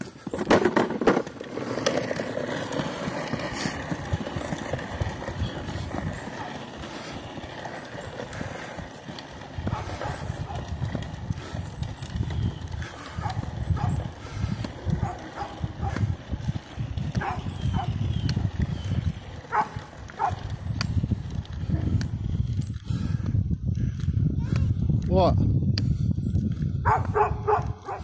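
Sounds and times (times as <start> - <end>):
toy truck wheels rattling on asphalt: 0.0 - 28.0.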